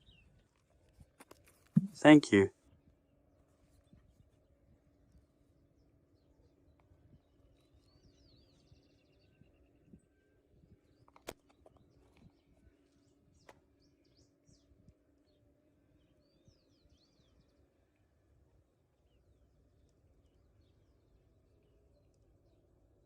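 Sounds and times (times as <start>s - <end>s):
faint birdsong chirps: 0.0s - 23.0s.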